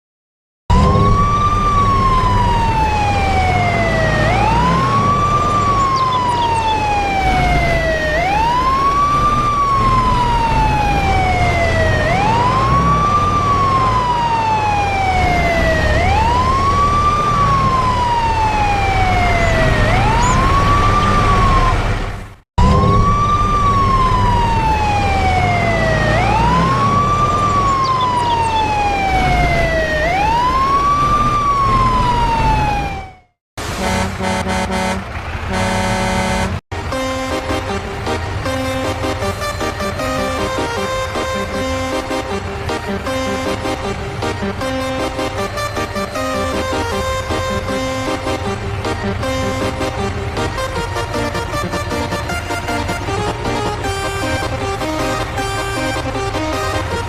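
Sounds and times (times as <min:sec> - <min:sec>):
truck horn wailing like siren: 0:00.7 - 0:22.0, 0:22.6 - 0:57.0.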